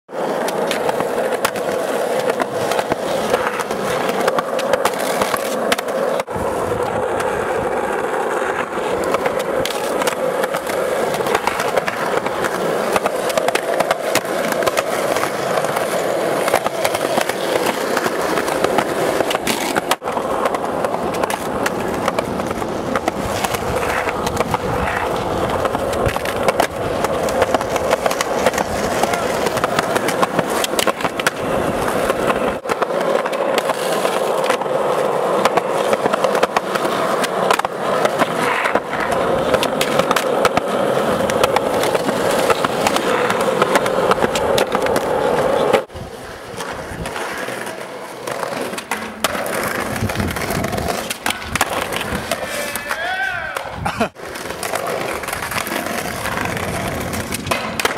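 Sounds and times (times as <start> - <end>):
skateboard clacks and knocks: 0.1 - 57.9
skateboard grinding on concrete: 0.1 - 57.9
skateboard wheels rolling on concrete: 0.1 - 57.9.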